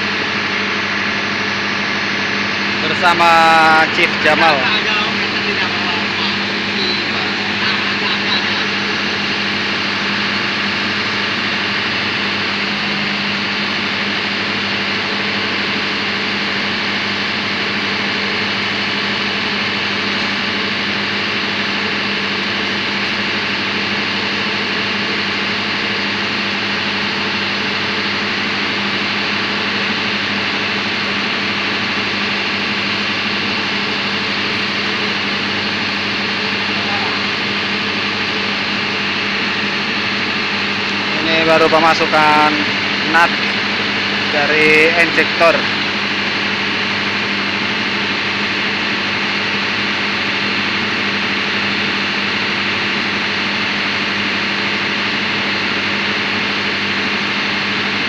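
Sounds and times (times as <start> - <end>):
engine-room machinery drone: 0.0 - 58.0.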